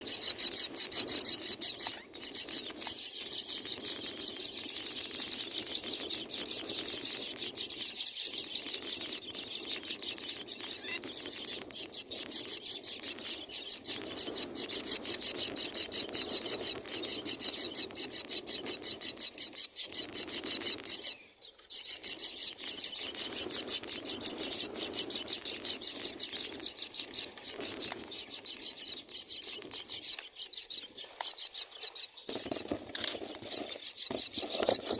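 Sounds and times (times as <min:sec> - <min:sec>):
nestlings begging with rasping chatter: 0:00.0 - 0:34.9.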